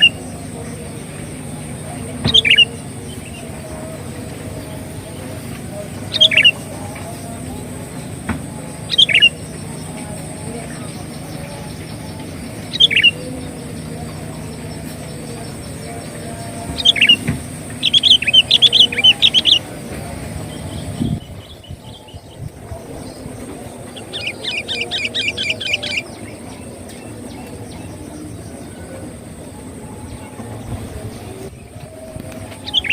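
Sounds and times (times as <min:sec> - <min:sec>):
bird calls and chattering: 0:00.0 - 0:32.9
steady background hum: 0:00.0 - 0:32.9.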